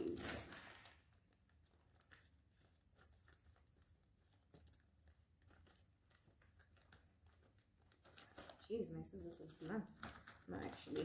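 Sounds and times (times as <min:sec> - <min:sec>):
plastic crinkling: 0:00.0 - 0:11.0.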